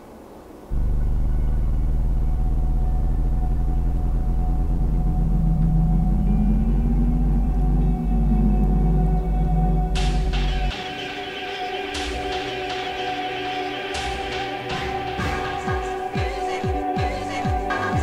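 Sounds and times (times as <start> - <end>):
dark ambient drone: 0.6 - 18.0
thin high held tone: 0.7 - 16.6.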